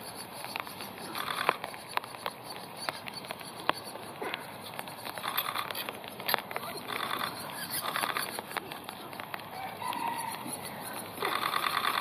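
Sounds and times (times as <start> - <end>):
nestlings buzzy begging calls: 0.0 - 12.0
sharp ticks: 0.0 - 12.0.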